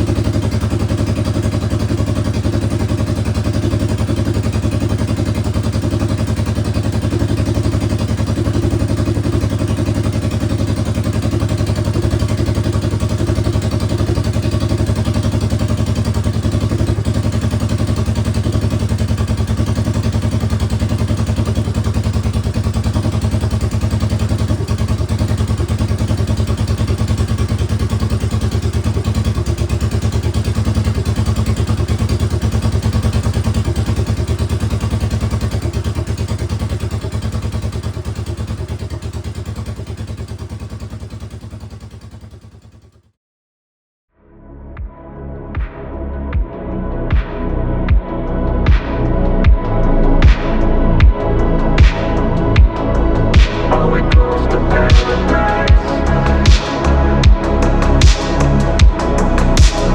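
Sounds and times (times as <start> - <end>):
motorcycle engine idling: 0.0 - 43.1, 46.4 - 59.9.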